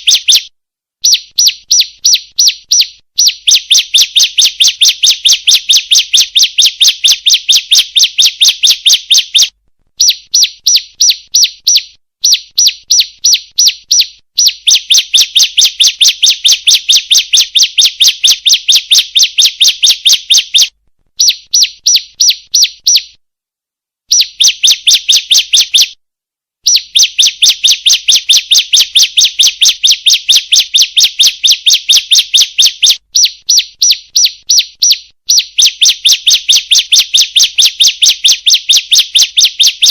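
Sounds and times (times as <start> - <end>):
bird calling with sharp high chirps: 0.0 - 23.2, 24.1 - 26.0, 26.6 - 39.9.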